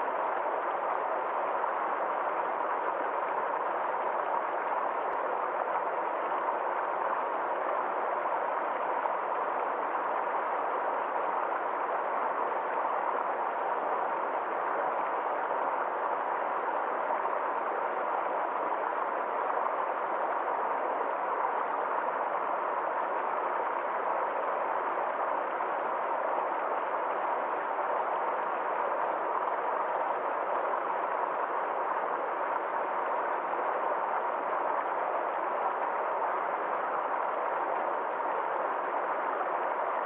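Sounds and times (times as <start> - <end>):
stream flowing: 0.0 - 40.0.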